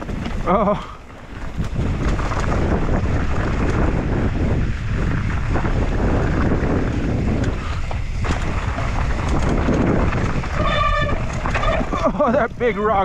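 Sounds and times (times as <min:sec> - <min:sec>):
bike tyres rattling on rocky trail: 0:00.0 - 0:13.0
wind rushing over microphone: 0:00.0 - 0:13.0.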